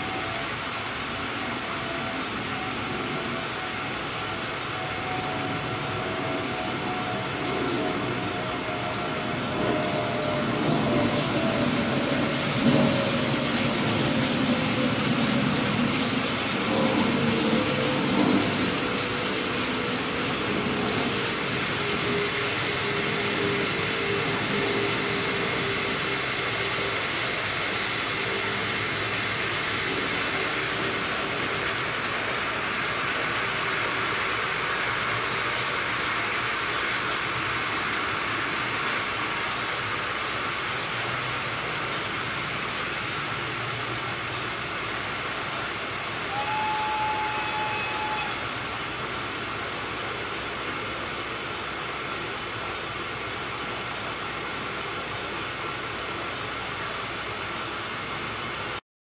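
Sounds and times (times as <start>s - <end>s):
model train wheels rattling on rail: 0.0s - 58.8s.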